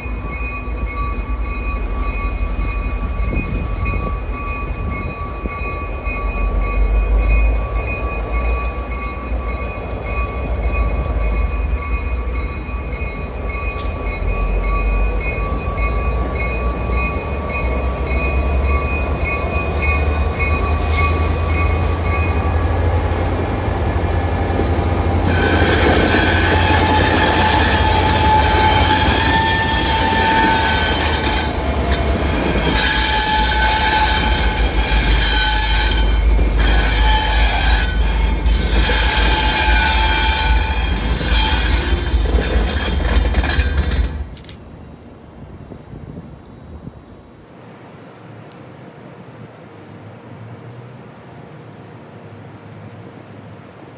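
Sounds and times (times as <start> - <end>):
train wheels squealing on rails: 0.0 - 44.6
diesel locomotive rumble: 0.0 - 47.4.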